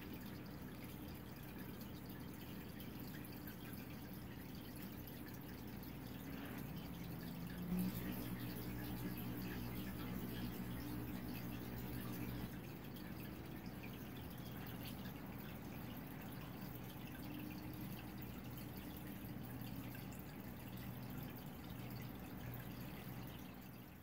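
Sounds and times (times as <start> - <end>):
low steady hum: 0.0 - 24.0
water dripping and trickling: 0.0 - 24.0.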